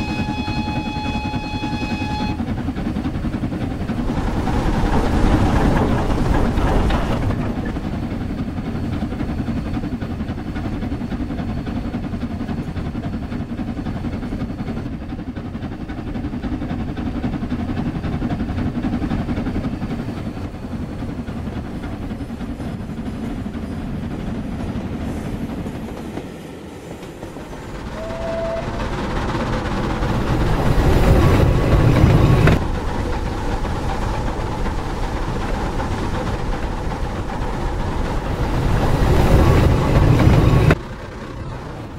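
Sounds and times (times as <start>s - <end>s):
model steam engine sound: 0.0s - 26.0s, 26.6s - 41.9s
wheels on track: 0.0s - 41.9s.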